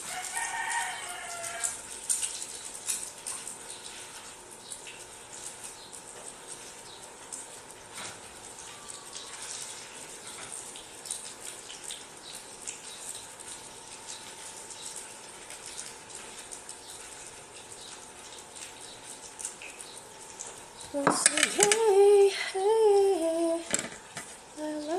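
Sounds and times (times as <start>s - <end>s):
rice cake sizzling in a pan: 0.0s - 21.8s.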